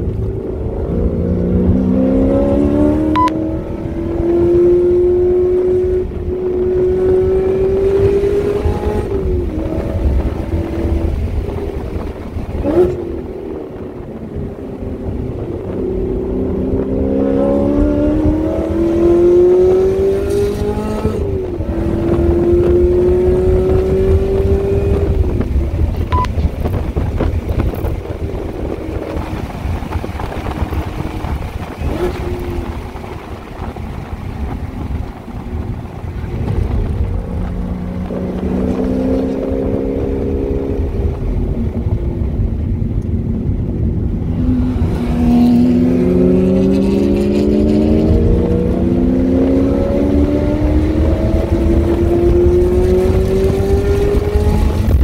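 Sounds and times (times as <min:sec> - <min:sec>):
car engine accelerating: 0:00.0 - 0:55.0
wind noise at high speed: 0:00.0 - 0:55.0.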